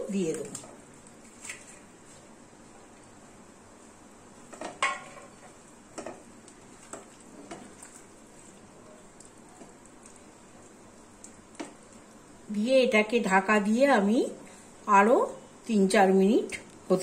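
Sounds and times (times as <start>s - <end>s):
low sizzle: 0.0s - 17.0s.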